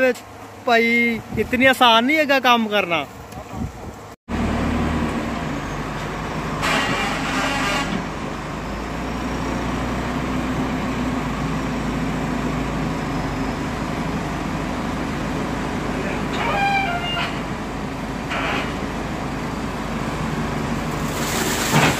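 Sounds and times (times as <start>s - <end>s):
diesel engine running: 3.9s - 21.9s.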